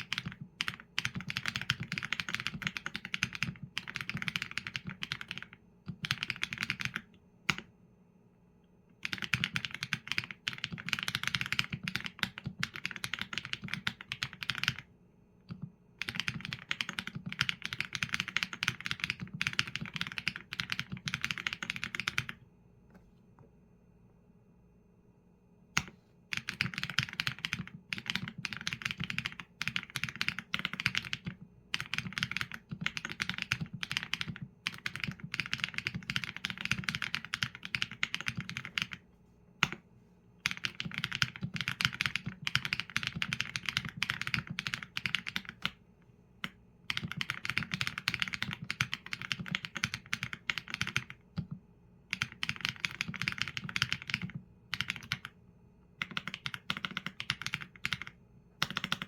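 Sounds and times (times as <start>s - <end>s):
typing on mechanical keyboard: 0.0s - 7.6s, 9.0s - 22.4s, 25.8s - 39.0s, 40.4s - 45.8s, 46.4s - 55.4s, 56.0s - 59.0s.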